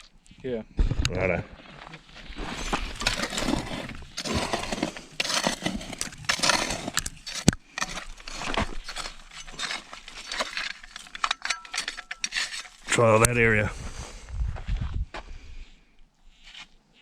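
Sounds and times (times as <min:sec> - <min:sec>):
digging in stony ground: 0:00.0 - 0:14.3.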